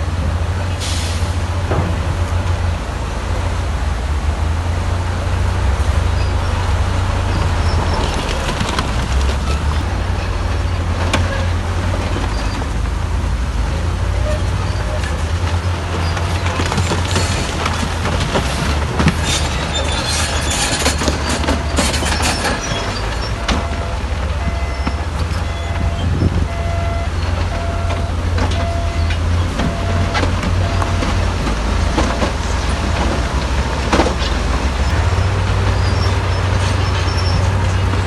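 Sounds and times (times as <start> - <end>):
bulldozer diesel engine running: 0.0 - 38.0
steel tracks clanking and squealing: 5.9 - 13.0, 13.7 - 38.0.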